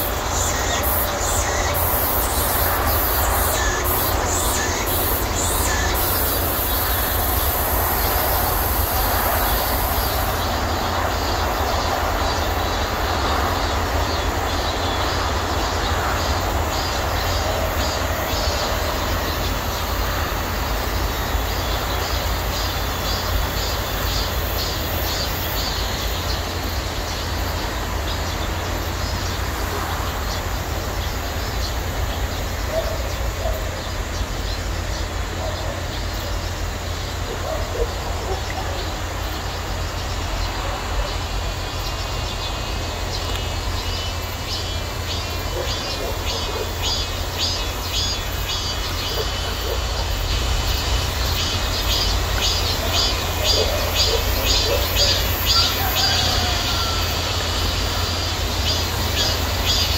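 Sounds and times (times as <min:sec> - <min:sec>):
cicadas chorus: 0:00.0 - 0:59.9
pulsing cicada call: 0:00.0 - 0:59.9.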